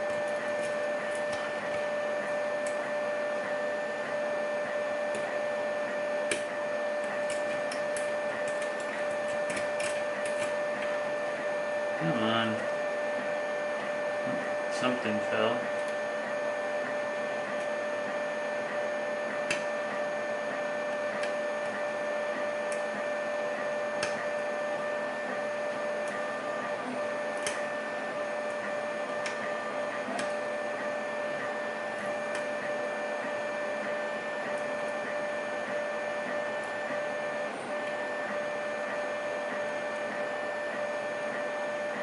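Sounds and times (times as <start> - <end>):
steady whining hum: 0.0 - 42.0.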